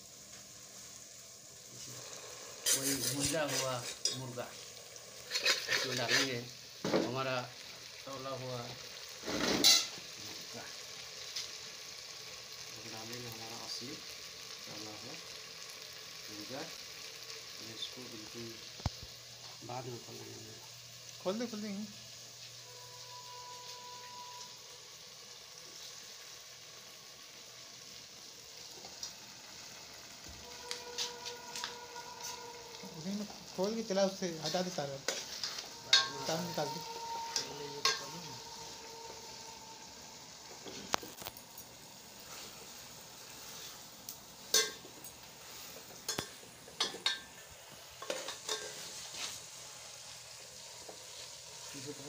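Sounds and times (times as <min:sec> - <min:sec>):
cooking oil sizzling: 0:00.0 - 0:52.0.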